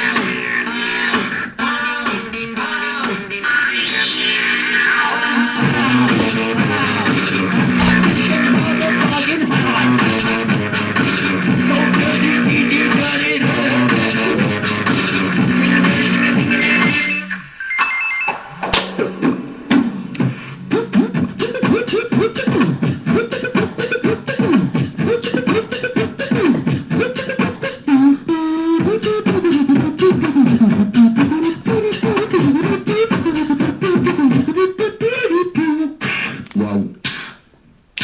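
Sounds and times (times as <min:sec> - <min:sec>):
person beatboxing: 0:00.0 - 0:17.1, 0:19.0 - 0:38.0.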